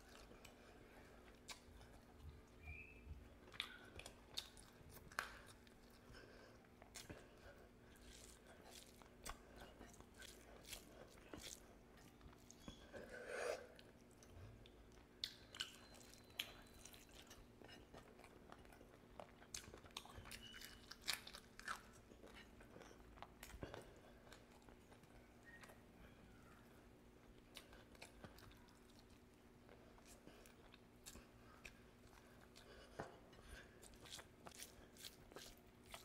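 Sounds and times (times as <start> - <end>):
man chewing food: 0.0 - 36.0.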